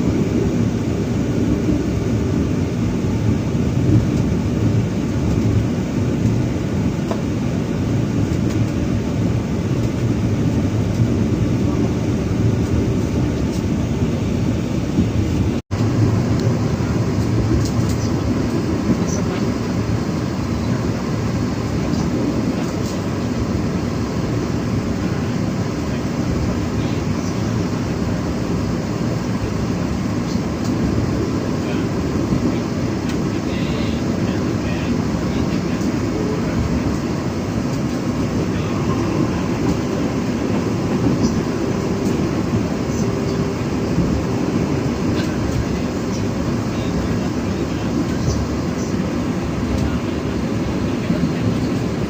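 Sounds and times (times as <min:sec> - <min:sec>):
passenger train rumble: 0:00.0 - 0:52.0.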